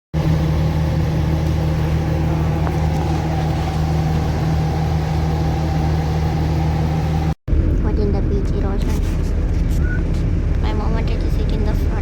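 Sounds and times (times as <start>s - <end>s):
vehicle engine humming: 0.2s - 12.0s.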